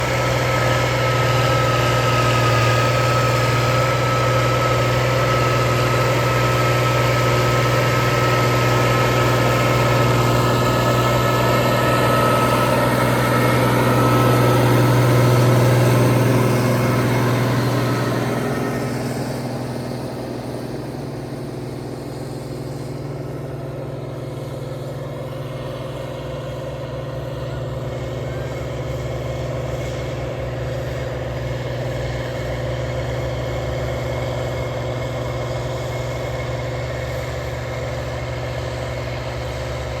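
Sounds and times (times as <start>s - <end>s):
tractor diesel engine droning: 0.0s - 40.0s.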